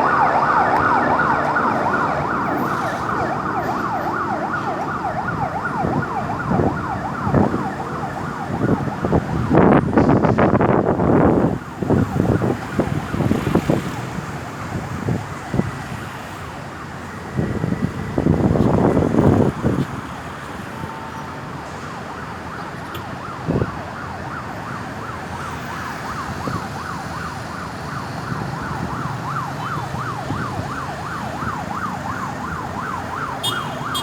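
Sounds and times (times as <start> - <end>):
ambulance siren yelp: 0.0 - 34.0
road traffic noise: 0.0 - 34.0.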